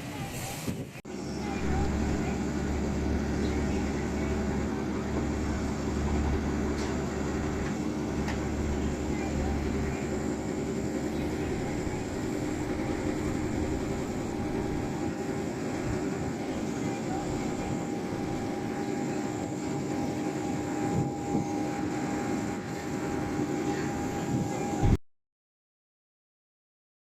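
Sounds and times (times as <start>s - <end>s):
machinery droning: 1.1s - 25.0s.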